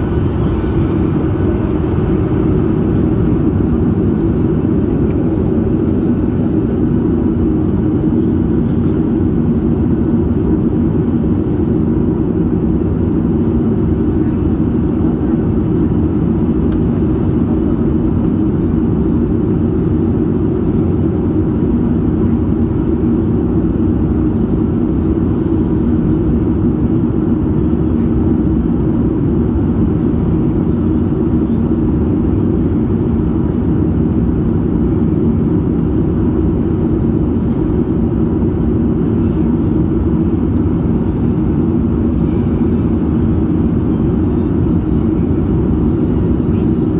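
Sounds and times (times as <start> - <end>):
airplane cabin rumble: 0.0 - 46.9
faint hum of steady tones: 0.0 - 46.9.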